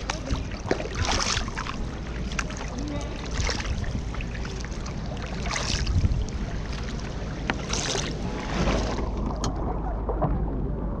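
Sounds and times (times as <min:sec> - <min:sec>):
paddle strokes splashing in water: 0:00.0 - 0:10.3
low wind rumble: 0:00.0 - 0:11.0.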